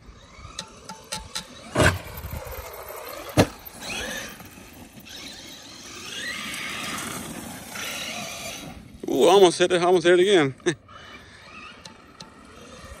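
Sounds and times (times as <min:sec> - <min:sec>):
electric motor whining: 0:00.0 - 0:09.2, 0:10.8 - 0:13.0.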